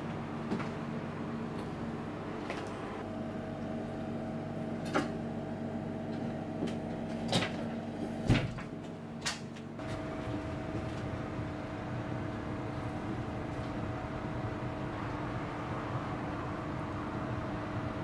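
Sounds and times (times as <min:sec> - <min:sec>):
kitchen equipment humming: 0:00.0 - 0:18.0.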